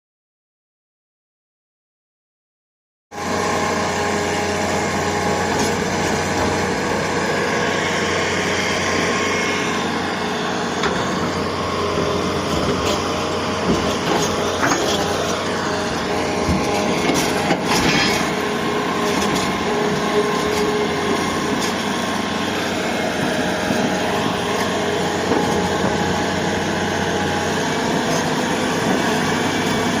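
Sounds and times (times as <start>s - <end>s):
excavator engine running: 3.2s - 30.0s.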